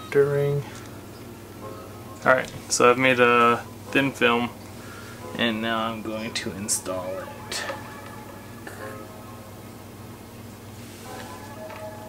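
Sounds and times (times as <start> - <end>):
background music with sustained notes: 0.0 - 12.0
steady low hum: 0.0 - 12.0.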